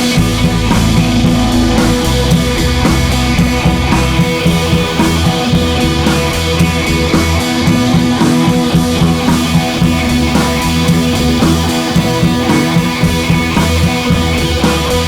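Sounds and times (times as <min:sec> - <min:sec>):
rock music with electric guitar: 0:00.0 - 0:15.0
steady drum beat: 0:00.0 - 0:15.0.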